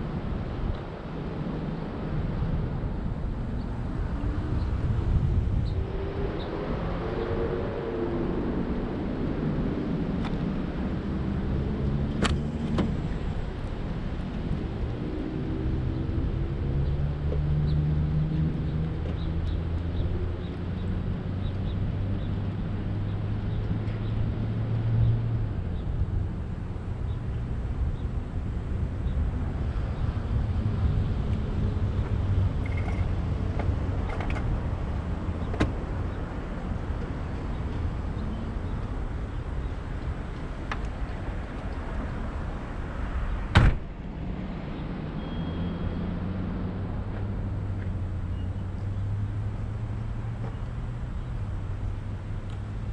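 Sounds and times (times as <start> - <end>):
cars passing: 0.0 - 52.9.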